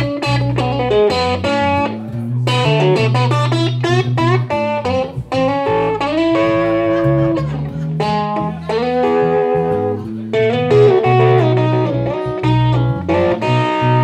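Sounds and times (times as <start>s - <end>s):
electric bass line: 0.0s - 14.0s
electric guitar solo: 0.0s - 14.0s.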